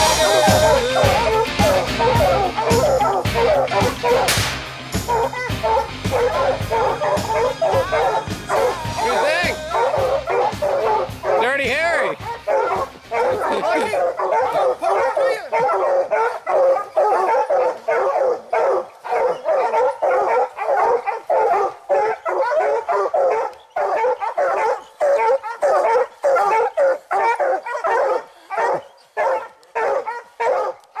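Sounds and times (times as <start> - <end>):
dogs barking: 0.0 - 31.0.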